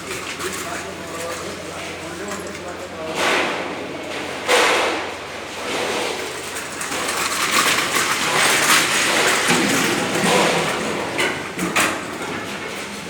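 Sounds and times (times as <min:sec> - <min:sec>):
hard objects clattering and knocking: 0:00.0 - 0:13.0.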